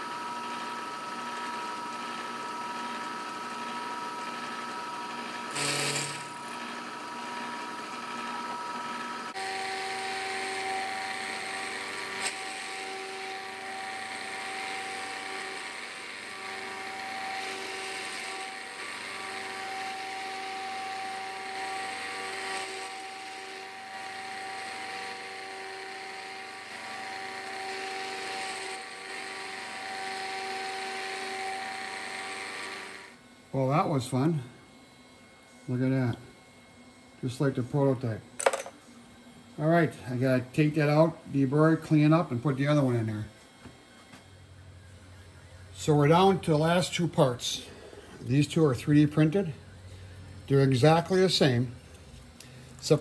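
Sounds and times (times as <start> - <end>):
milling machine spindle whine: 0.0 - 53.0.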